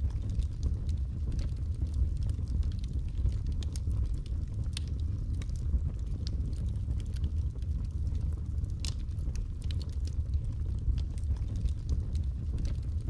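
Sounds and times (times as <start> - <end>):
fire crackling and popping: 0.0 - 13.0
fire rumbling in a fireplace: 0.0 - 13.0.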